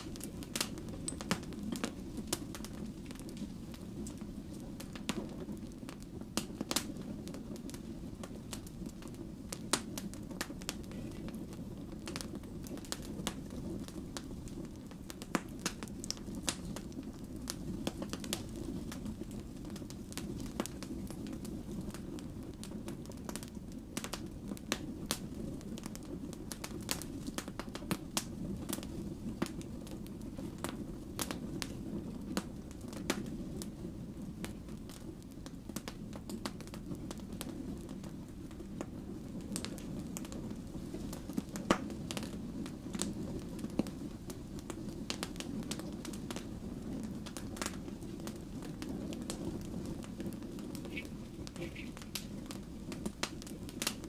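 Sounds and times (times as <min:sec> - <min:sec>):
burning logs crackling and popping: 0:00.0 - 0:54.0
low roar of flames: 0:00.0 - 0:54.0.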